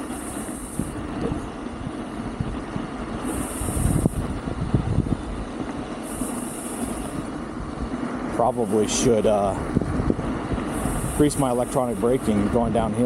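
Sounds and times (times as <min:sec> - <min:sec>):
tyres rumbling on dirt road: 0:00.0 - 0:13.0
wind noise on microphone: 0:00.0 - 0:13.0.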